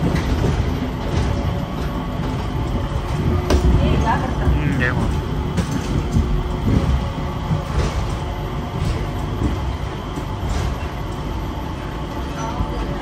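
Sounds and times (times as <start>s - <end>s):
train car low rumble: 0.0s - 13.0s.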